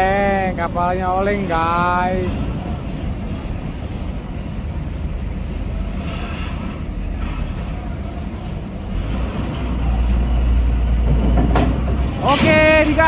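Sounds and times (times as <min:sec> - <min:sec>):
heavy vehicle engines rumbling: 0:00.0 - 0:13.0.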